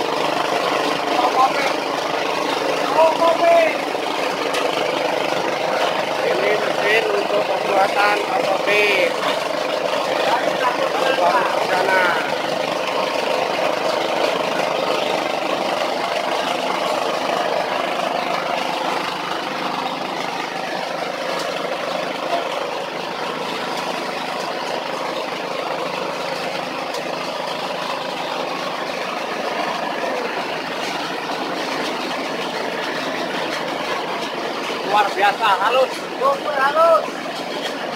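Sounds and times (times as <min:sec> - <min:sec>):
forage chopper engine running: 0:00.0 - 0:37.9.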